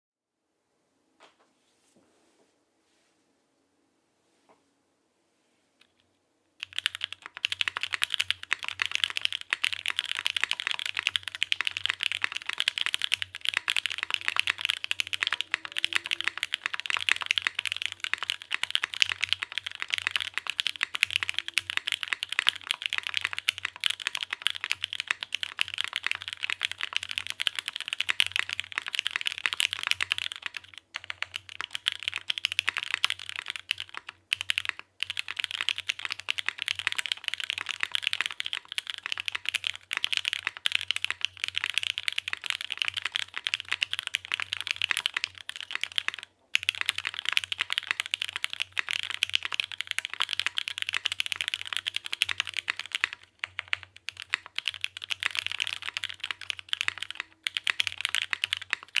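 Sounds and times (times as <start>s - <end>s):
fast typing on mechanical keyboard: 6.6s - 59.0s.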